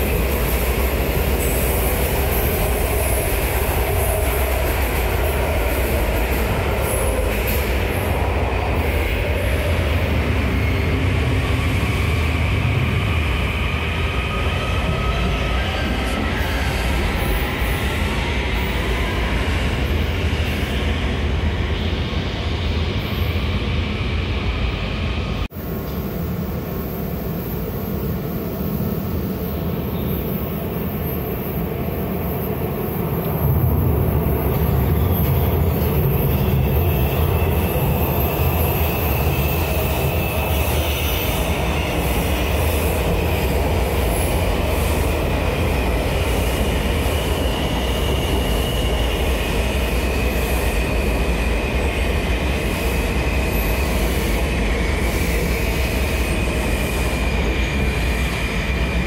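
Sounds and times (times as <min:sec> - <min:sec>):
subway train rumble: 0:00.0 - 0:59.0.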